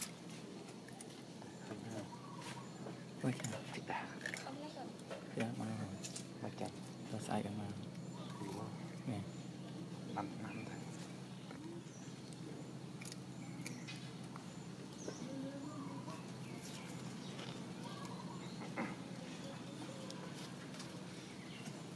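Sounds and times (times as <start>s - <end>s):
steady low hum: 0.0s - 21.9s
faint bird chirps: 1.0s - 3.9s, 5.6s - 21.9s.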